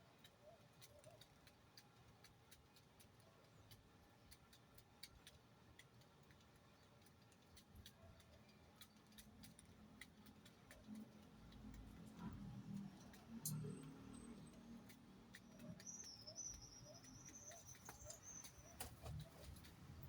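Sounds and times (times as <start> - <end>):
faint small clicks: 0.0 - 20.0.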